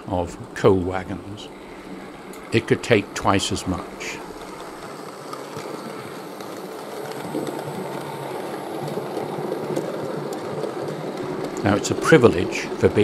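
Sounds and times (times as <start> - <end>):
model train wagons rolling on track: 0.0 - 13.0.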